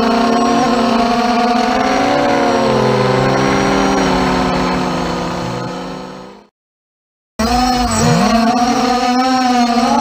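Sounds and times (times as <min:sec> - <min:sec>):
quadcopter motors whining: 0:00.0 - 0:06.5, 0:07.4 - 0:10.0.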